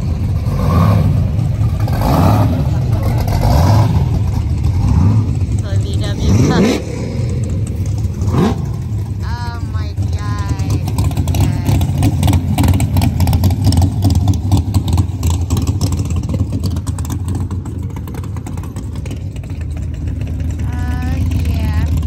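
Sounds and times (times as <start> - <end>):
hot-rod engines rumbling: 0.0 - 22.0.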